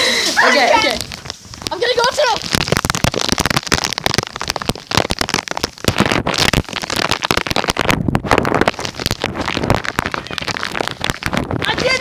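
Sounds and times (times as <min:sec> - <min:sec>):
heavy rain pelting: 0:00.0 - 0:12.0.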